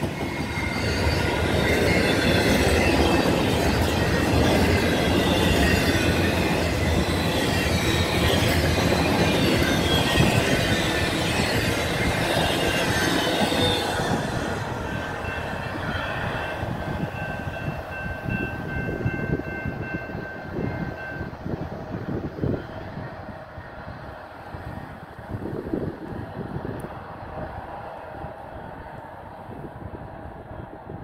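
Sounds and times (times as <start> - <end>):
freight train wheels rattling: 0.0 - 29.1.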